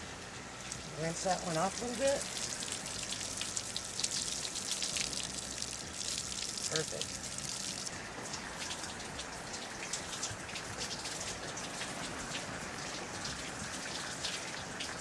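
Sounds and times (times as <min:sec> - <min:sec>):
small water splashes: 0:01.6 - 0:15.0.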